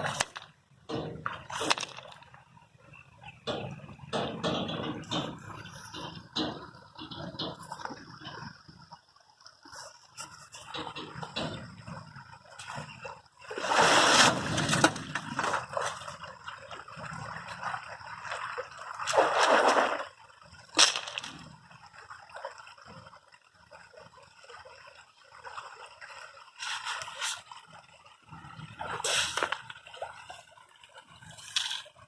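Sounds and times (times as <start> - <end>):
river water splashing and gurgling: 0.0 - 32.0.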